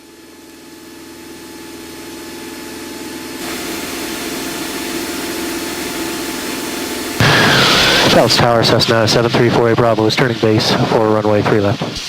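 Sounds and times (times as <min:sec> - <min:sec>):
airplane engine droning in cabin: 0:00.0 - 0:11.6.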